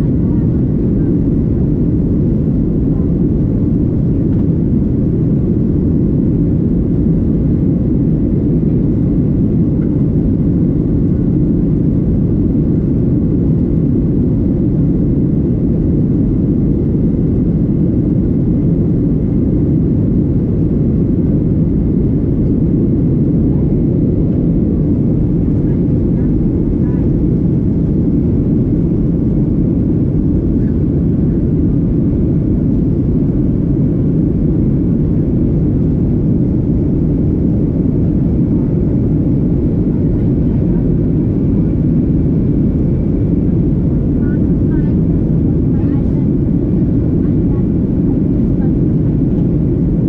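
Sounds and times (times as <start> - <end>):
airplane cabin engine roar: 0.0 - 50.0.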